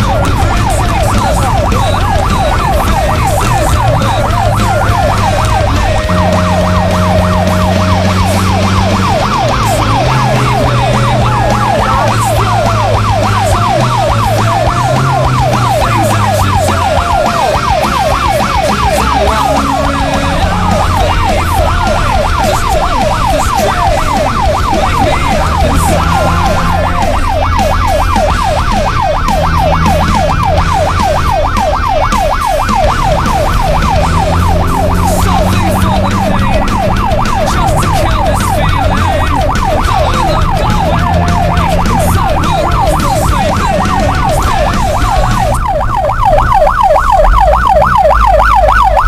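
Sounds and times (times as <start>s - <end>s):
steady low drone: 0.0s - 48.1s
siren-like yelp: 0.0s - 49.0s.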